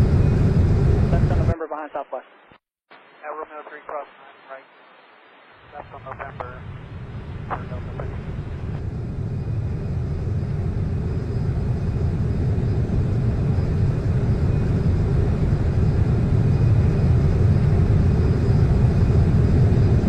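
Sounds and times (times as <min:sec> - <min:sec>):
jet engines rumbling on takeoff: 0:00.0 - 0:02.3, 0:02.9 - 0:20.0.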